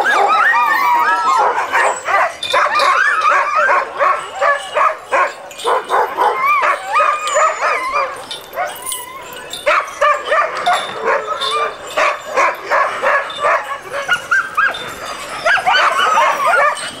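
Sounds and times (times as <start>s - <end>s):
sled dogs barking and yipping: 0.0s - 17.0s.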